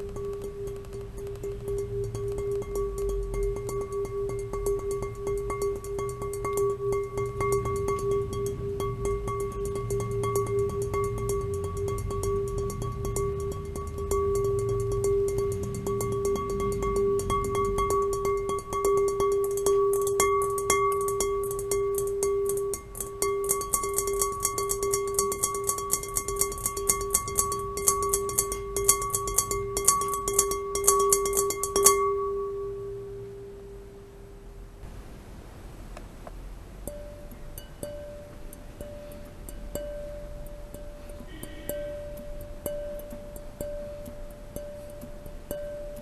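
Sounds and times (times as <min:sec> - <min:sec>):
glass bowl ringing tone: 0:00.0 - 0:34.8, 0:36.8 - 0:46.0.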